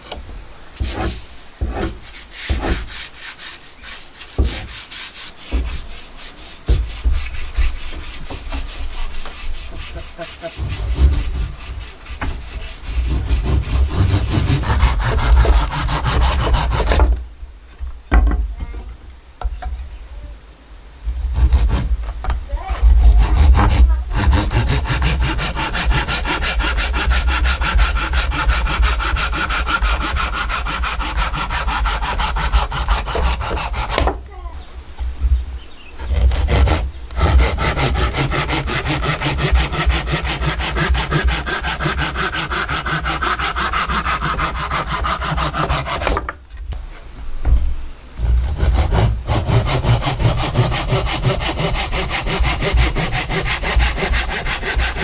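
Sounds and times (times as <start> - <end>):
saw rasping through wood: 0.8 - 17.2, 21.1 - 34.2, 36.0 - 46.4, 48.2 - 55.0.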